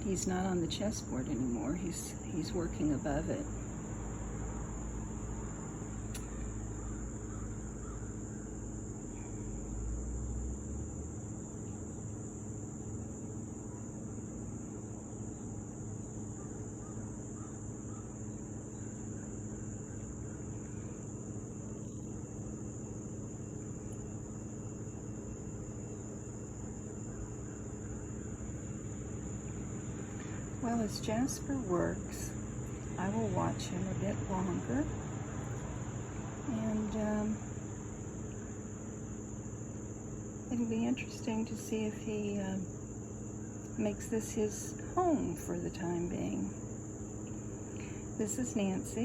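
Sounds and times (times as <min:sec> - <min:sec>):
insects trilling: 0:00.0 - 0:49.0.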